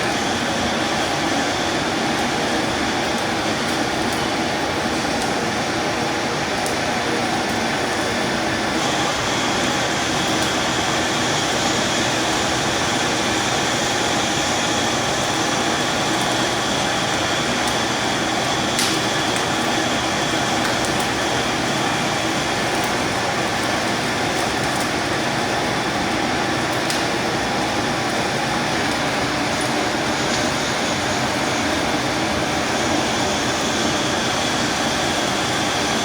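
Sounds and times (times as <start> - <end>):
steady mechanical noise: 0.0 - 36.0.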